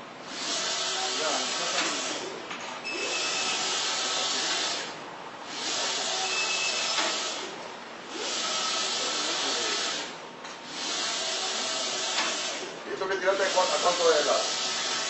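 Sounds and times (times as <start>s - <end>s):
printer carriage hissing: 0.0s - 15.0s.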